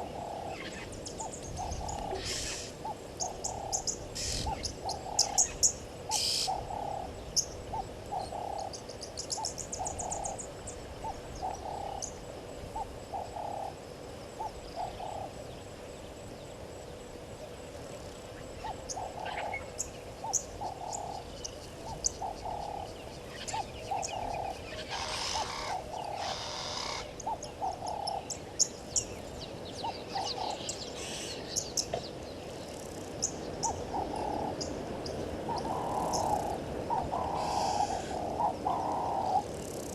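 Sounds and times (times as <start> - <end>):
low repeated animal calls: 0.0 - 15.5, 18.6 - 28.7, 29.8 - 31.6, 33.6 - 39.9.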